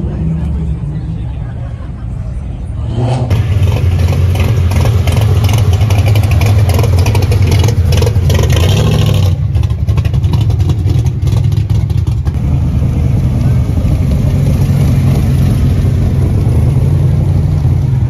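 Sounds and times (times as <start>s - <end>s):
car engine pulling away: 2.6s - 18.0s.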